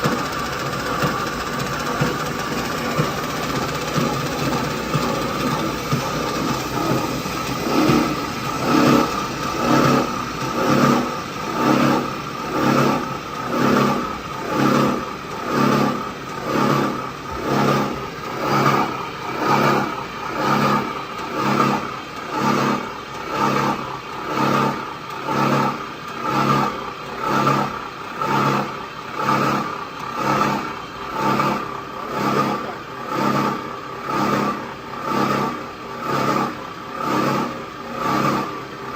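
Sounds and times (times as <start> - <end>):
machine hum with cycling whine: 0.0 - 38.9.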